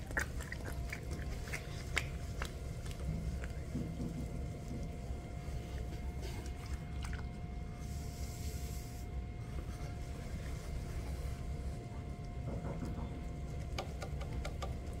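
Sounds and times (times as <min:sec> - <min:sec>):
wet clay squishing: 0:00.0 - 0:12.4
potter's wheel humming and whining: 0:02.1 - 0:15.0.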